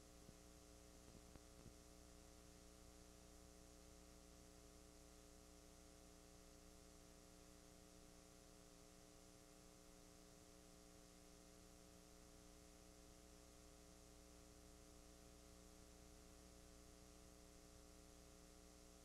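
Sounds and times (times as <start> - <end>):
faint electrical hum and hiss: 0.0 - 19.0.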